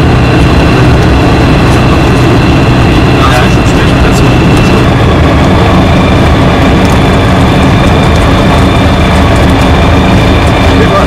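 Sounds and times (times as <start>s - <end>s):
aircraft engine and propeller: 0.0s - 11.0s.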